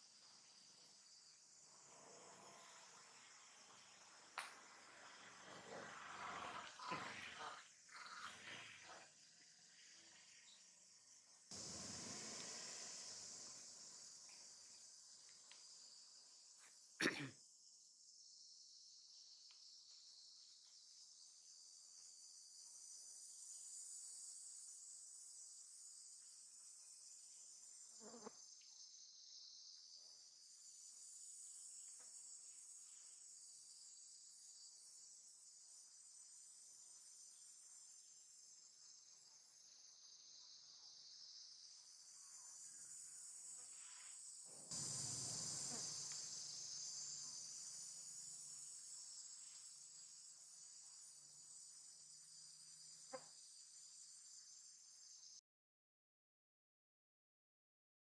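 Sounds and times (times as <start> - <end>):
faint insect chorus: 0.0 - 55.4.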